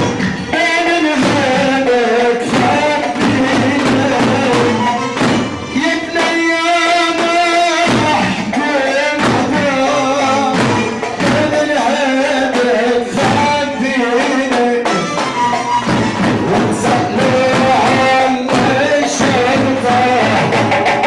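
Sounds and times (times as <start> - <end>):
party music: 0.0 - 21.0
percussion hits: 0.0 - 21.0
person singing: 0.0 - 21.0.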